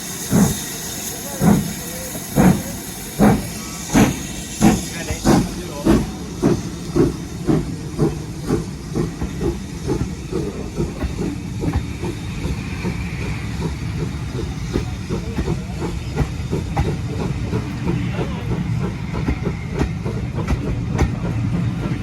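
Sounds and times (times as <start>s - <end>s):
steam hissing: 0.0s - 22.0s
steam locomotive exhaust beats: 0.0s - 22.0s
train running rumble: 0.0s - 22.0s.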